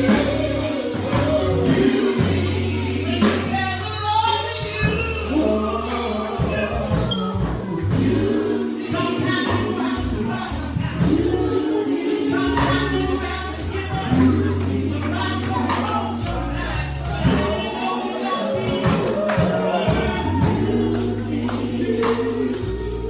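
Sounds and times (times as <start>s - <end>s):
held bass notes: 0.0s - 23.0s
steady percussion beat: 0.0s - 23.0s
voices singing gospel: 0.0s - 23.0s.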